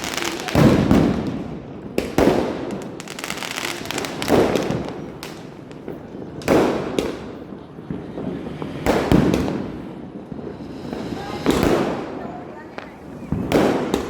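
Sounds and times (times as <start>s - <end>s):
firecrackers banging: 0.0s - 14.0s.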